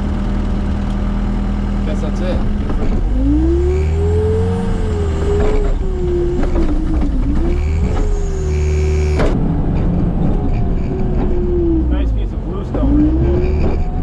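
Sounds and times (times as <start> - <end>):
skid steer engine revving and whining: 0.0 - 14.0.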